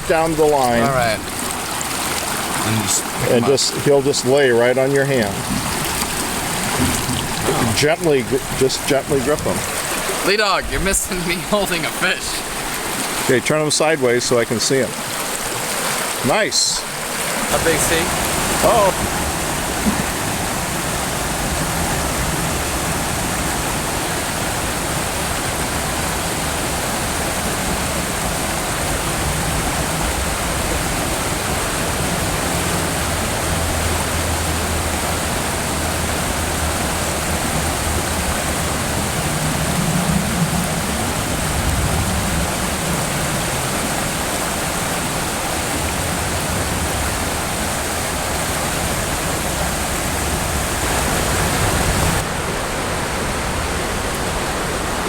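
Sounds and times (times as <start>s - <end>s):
river current rushing: 0.0s - 55.0s.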